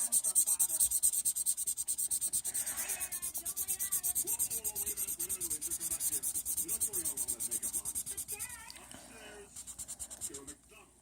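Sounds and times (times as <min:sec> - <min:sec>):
scribbling on paper: 0:00.0 - 0:08.7, 0:09.5 - 0:10.6.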